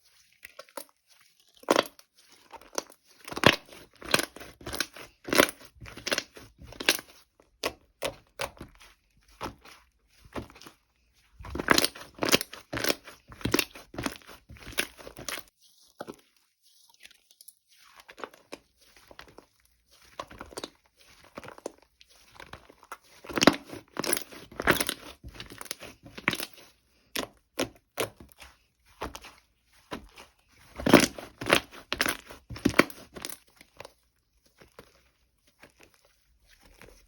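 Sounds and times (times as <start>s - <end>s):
crinkly material crackling: 0.0s - 37.0s.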